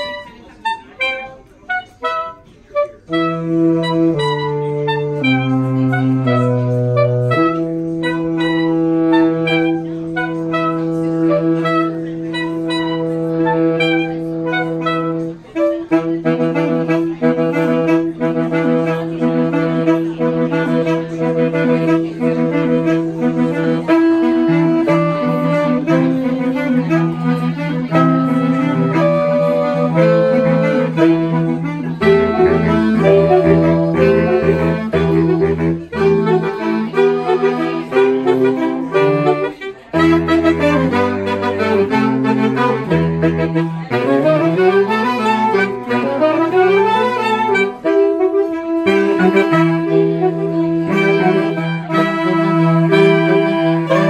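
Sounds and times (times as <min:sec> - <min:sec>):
saxophone choir playing: 0:00.0 - 0:54.0.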